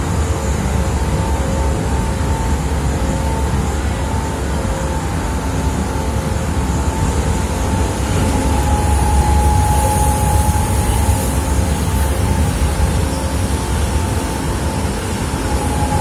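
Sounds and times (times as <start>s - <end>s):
freight train passing: 0.0s - 16.0s
thin steady whine: 0.0s - 16.0s
train wheels rumbling on rail: 0.0s - 16.0s.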